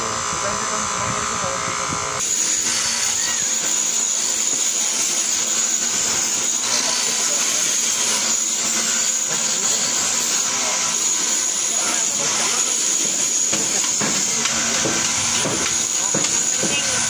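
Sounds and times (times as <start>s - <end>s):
bench grinder grinding metal: 0.0s - 17.0s.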